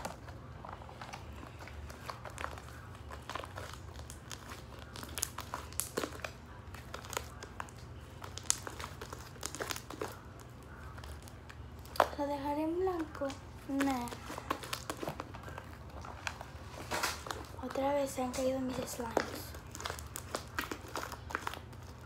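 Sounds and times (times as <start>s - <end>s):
slime squishing and crackling: 0.0s - 22.0s.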